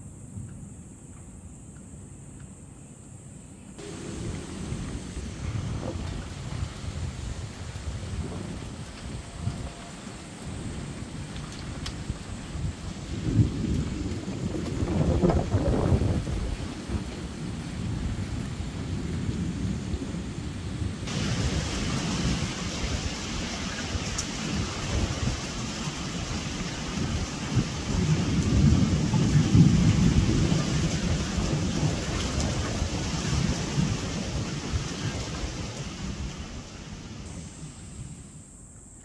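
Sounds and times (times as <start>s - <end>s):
thunder rumbling: 3.8s - 38.4s
torrential rain hissing: 3.8s - 38.7s.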